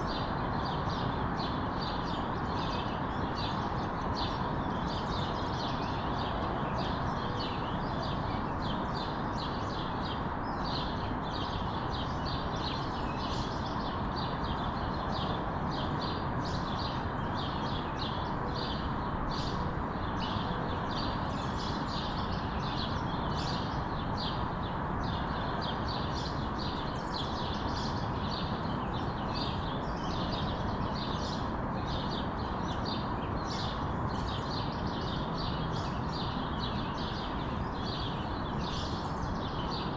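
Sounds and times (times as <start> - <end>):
small birds chirping: 0.0 - 39.9
steady background noise: 0.0 - 39.9.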